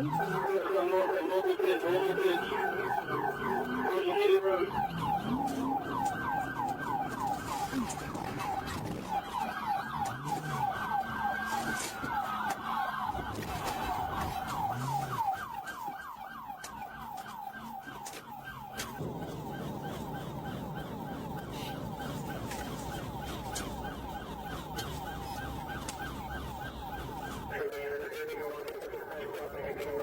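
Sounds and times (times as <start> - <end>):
police siren yelping: 0.0 - 30.0
car engine and road noise: 2.4 - 27.5.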